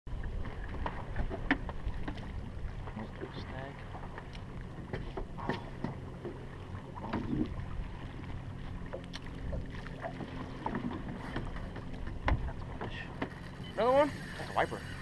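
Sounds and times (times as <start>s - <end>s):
boat motor humming: 0.1s - 15.0s.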